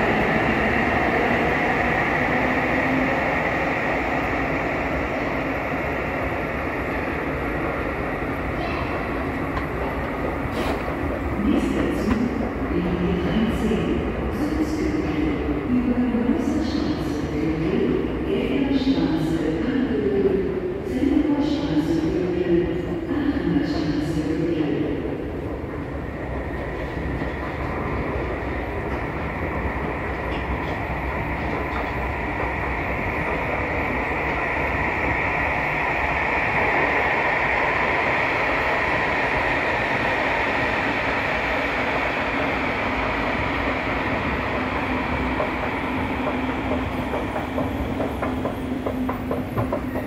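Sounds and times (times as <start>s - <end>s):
train rumble and whine: 0.0s - 50.0s.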